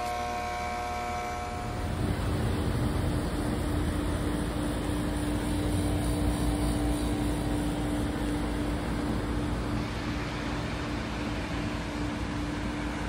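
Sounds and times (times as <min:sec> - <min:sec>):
heat pump compressor hum: 0:00.0 - 0:13.0.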